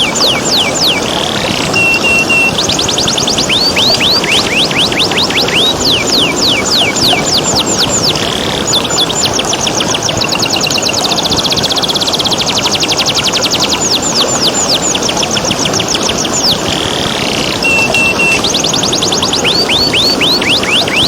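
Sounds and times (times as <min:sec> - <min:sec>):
canary singing: 0:00.0 - 0:21.0
flowing water rushing: 0:00.0 - 0:21.0.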